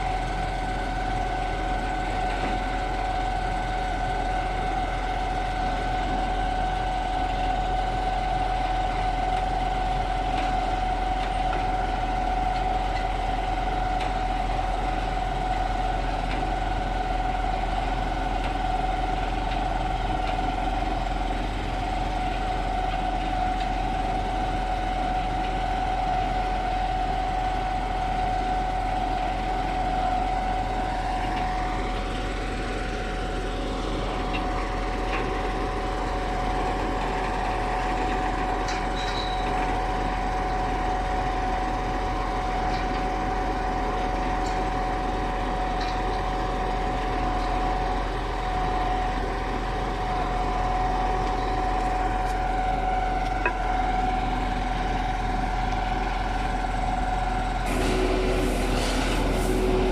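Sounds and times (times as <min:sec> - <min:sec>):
constant high whine: 0:00.0 - 0:59.9
diesel engine rumble: 0:00.0 - 0:59.9.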